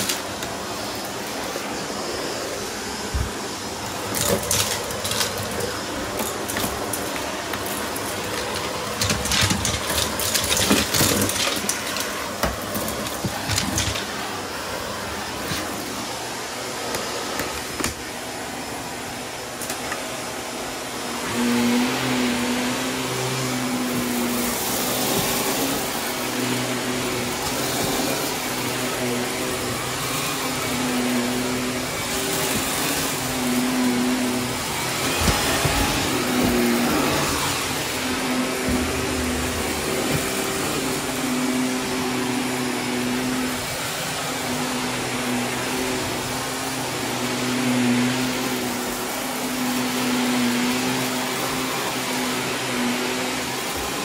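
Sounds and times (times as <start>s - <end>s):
cordless vacuum running on carpet: 0.0s - 54.0s.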